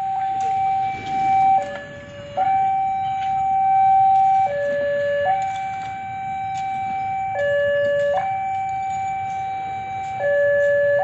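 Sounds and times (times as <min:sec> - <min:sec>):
two-tone crossing alarm: 0:00.0 - 0:11.0.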